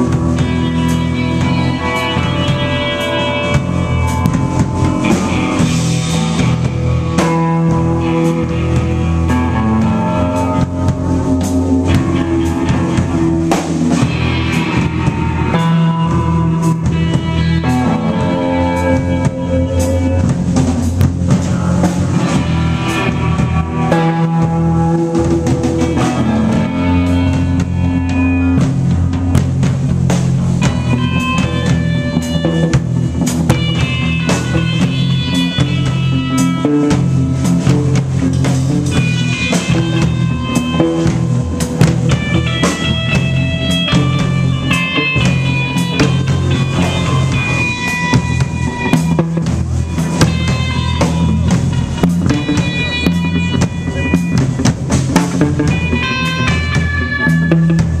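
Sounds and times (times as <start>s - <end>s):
drum kit beat: 0.0s - 58.0s
live band playing: 0.0s - 58.0s.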